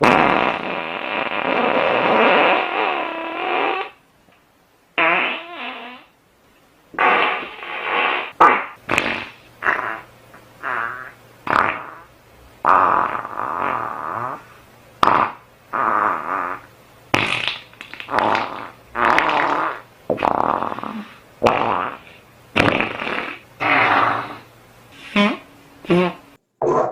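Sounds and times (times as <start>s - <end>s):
farts: 0.0s - 4.0s, 5.0s - 6.1s, 7.0s - 26.9s.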